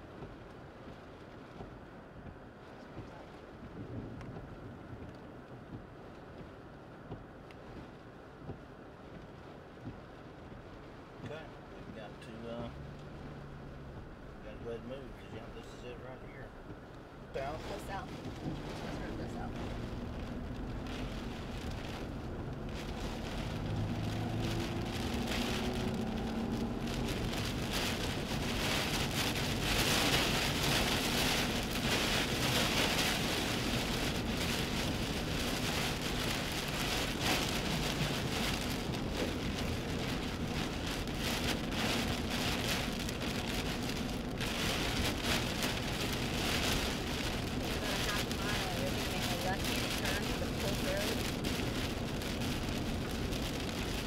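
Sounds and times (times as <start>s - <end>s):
heavy rain on vehicle: 0.0s - 54.0s.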